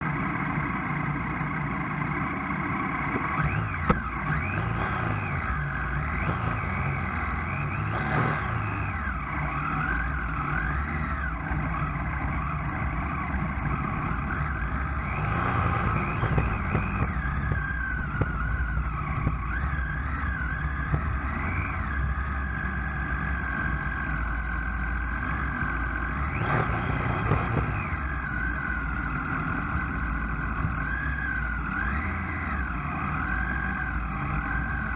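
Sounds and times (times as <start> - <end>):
engine whine rising and falling: 0.0 - 34.9
vehicle engine running: 0.0 - 34.9.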